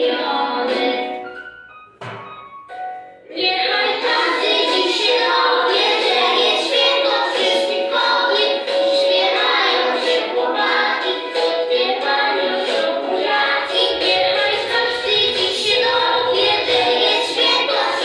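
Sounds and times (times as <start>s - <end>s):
children singing together: 0.0s - 1.3s, 3.2s - 18.0s
backing music: 0.0s - 18.0s.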